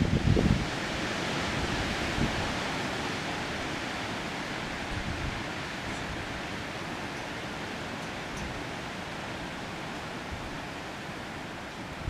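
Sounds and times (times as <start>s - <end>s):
wind rushing through trees: 0.0s - 12.0s.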